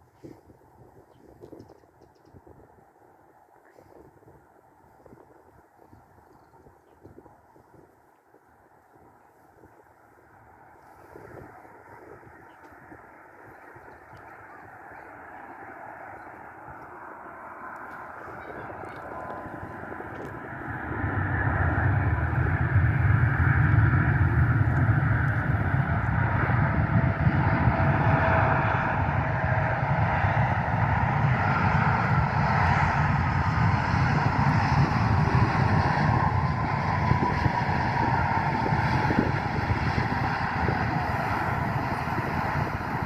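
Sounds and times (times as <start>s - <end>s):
airplane engines rumbling: 0.0s - 43.0s.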